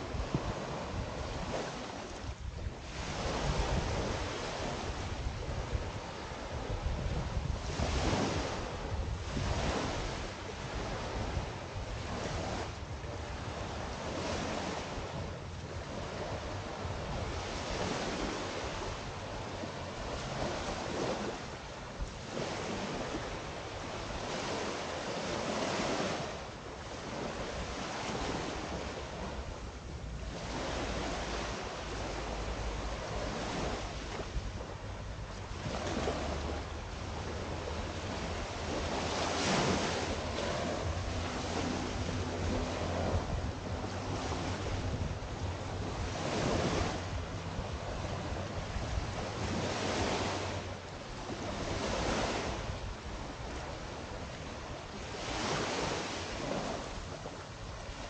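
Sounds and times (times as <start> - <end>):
waves washing onto sandy shore: 0.0 - 58.0
wind buffeting microphone: 0.0 - 58.0.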